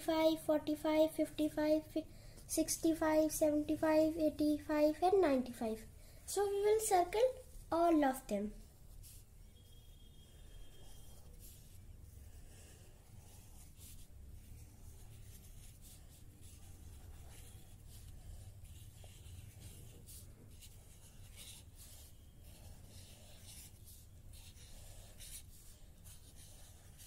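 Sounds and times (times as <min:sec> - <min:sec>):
marker pen scratching on paper: 0:02.8 - 0:27.0.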